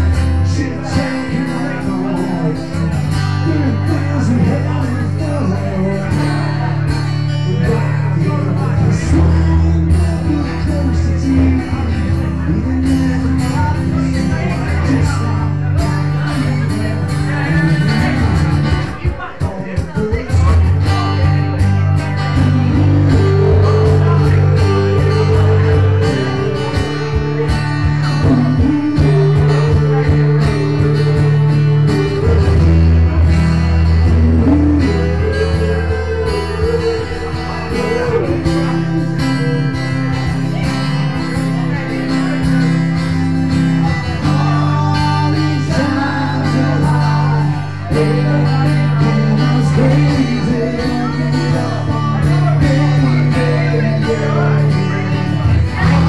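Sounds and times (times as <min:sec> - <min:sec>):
held bass notes: 0:00.0 - 0:56.0
person singing: 0:00.0 - 0:56.0
strummed guitar: 0:00.0 - 0:56.0.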